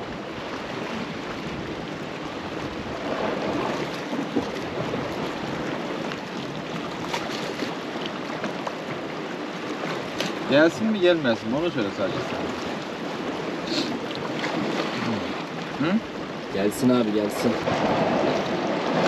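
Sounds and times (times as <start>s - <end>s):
sea waves washing against rocks: 0.0s - 19.0s.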